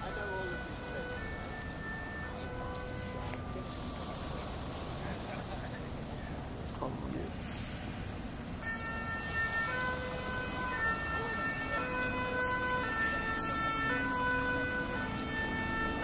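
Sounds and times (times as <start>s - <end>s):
two-tone emergency siren: 0.0s - 5.5s, 8.4s - 16.0s
street traffic noise: 0.0s - 16.0s.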